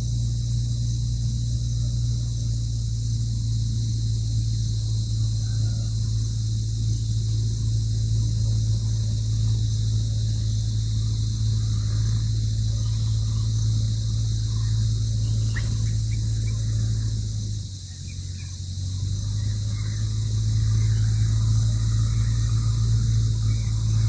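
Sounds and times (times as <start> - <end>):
insects droning: 0.0 - 24.0
low steady hum: 0.0 - 24.0
faint bird chirps: 0.1 - 24.0.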